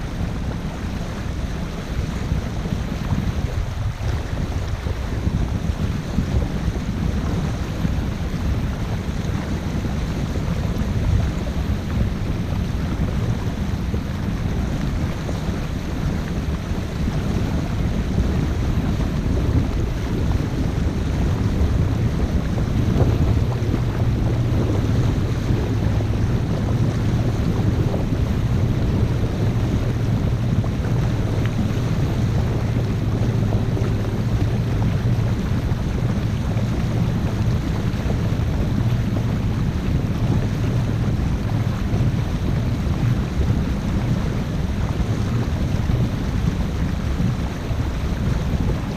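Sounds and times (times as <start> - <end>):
boat engine humming: 0.0 - 48.9
water rushing past hull: 0.0 - 48.9
wind buffeting microphone: 0.0 - 48.9.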